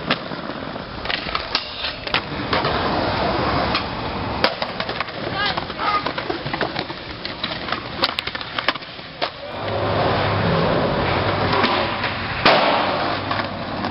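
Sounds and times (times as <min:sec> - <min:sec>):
skateboard clacks and knocks: 0:00.0 - 0:10.2, 0:10.8 - 0:13.9
skateboard wheels rolling on concrete: 0:00.0 - 0:13.9.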